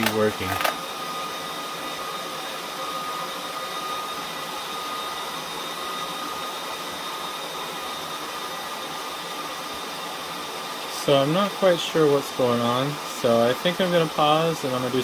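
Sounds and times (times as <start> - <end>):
server cooling fans whirring: 0.0 - 15.0.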